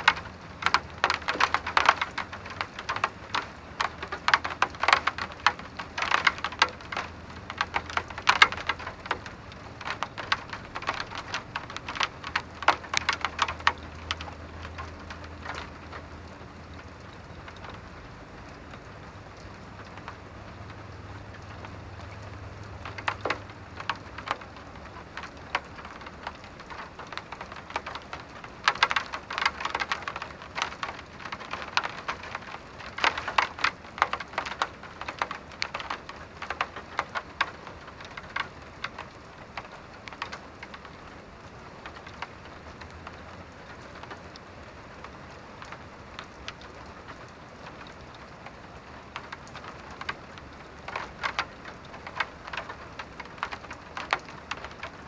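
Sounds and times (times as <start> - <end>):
rain patter: 0.0 - 55.0
sharp drips on hard surface: 0.0 - 55.0.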